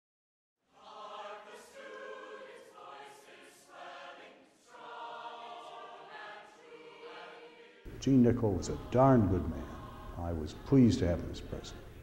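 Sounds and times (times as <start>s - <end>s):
choir singing held notes: 0.7s - 12.0s.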